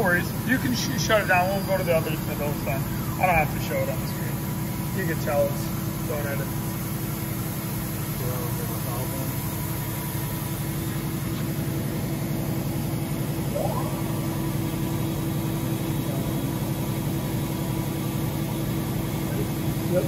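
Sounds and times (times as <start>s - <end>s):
machine spindle humming: 0.0s - 20.0s.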